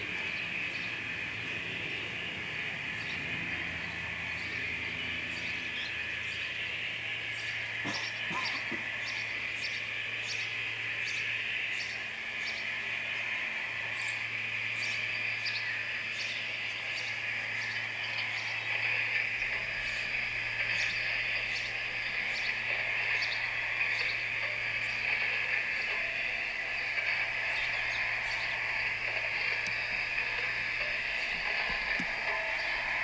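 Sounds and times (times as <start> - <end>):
low hum: 0.0 - 33.0
steady high hiss: 0.0 - 33.0
steam locomotive chuffs: 0.0 - 33.0.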